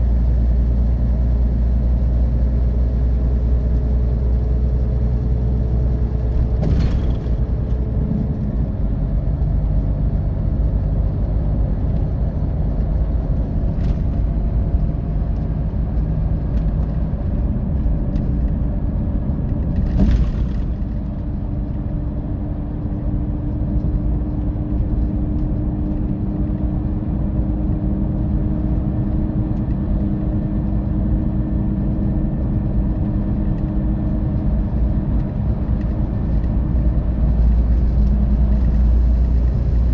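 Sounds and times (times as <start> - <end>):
coach engine rumble: 0.0 - 39.9
road and tyre noise: 0.0 - 39.9.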